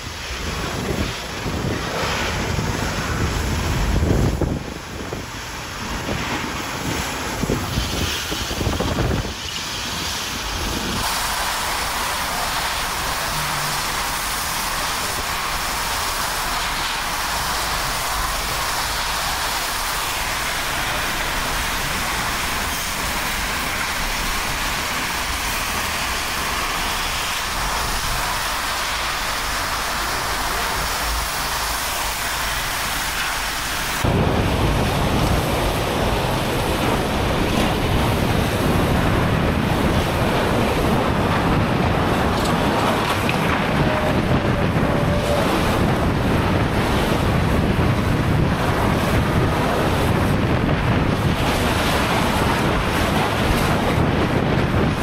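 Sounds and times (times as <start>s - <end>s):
hiss of wind-driven rain: 0.0s - 55.0s
wind gusts buffeting microphone: 0.0s - 55.0s.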